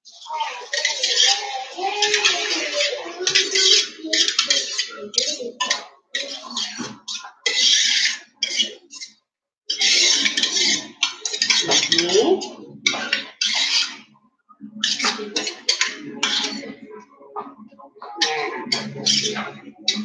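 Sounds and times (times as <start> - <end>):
metal bowl clanking and scraping: 0.3 - 9.1, 9.7 - 14.1, 14.8 - 16.8, 18.1 - 20.0.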